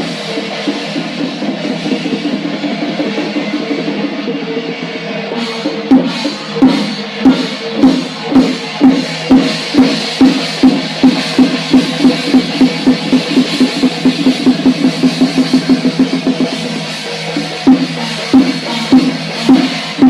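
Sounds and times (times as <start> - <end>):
dense drumming: 0.0 - 20.0
heavy drum steady beat: 0.0 - 20.0.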